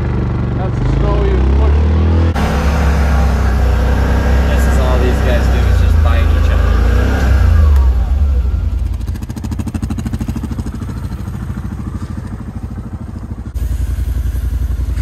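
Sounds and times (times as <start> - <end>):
engine idling with pulsing beat: 0.0 - 15.0.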